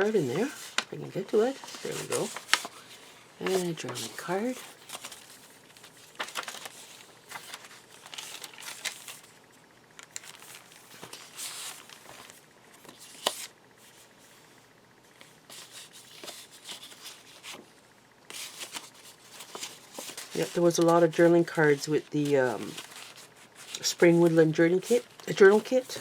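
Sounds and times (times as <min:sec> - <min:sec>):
paper rustling and crinkling: 0:00.0 - 0:09.4, 0:10.0 - 0:14.3, 0:15.1 - 0:17.7, 0:18.3 - 0:26.0.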